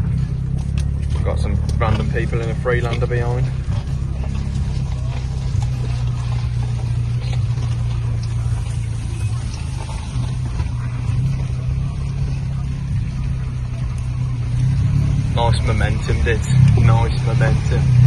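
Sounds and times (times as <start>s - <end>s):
car engine running low revs: 0.0s - 18.0s.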